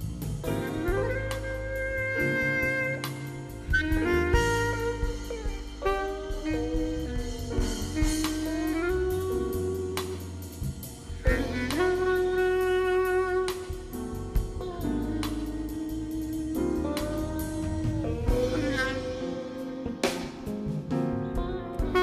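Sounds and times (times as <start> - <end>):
bass clarinet melody: 0.0 - 22.0
jazz ensemble playing slow ballad: 0.0 - 22.0.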